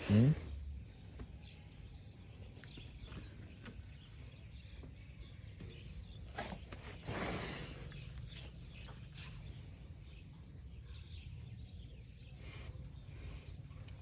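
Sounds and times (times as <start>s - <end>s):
faint bird and insect chirps: 0.0s - 14.0s.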